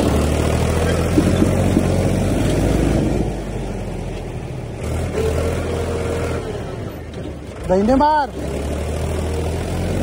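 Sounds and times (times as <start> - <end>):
tractor diesel engine straining: 0.0 - 10.0.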